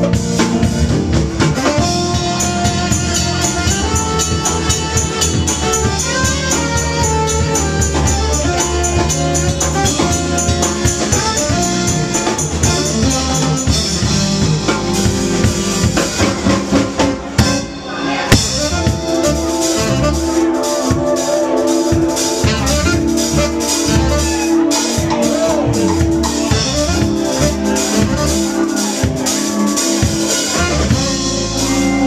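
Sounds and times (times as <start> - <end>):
drum kit beat: 0.0 - 32.0
live rock band playing: 0.0 - 32.0.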